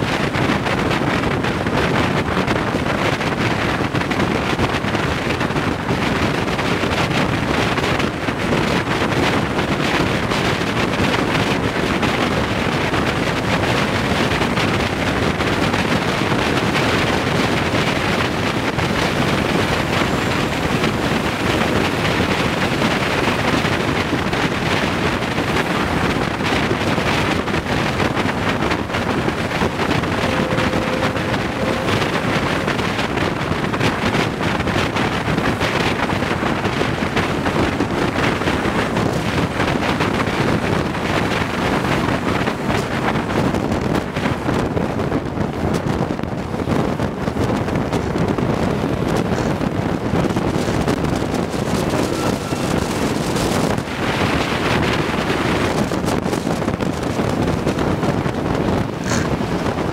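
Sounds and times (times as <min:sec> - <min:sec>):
road noise from vehicle: 0:00.0 - 0:59.9
rushing wind: 0:00.0 - 0:59.9
wind buffeting microphone: 0:00.0 - 0:59.9.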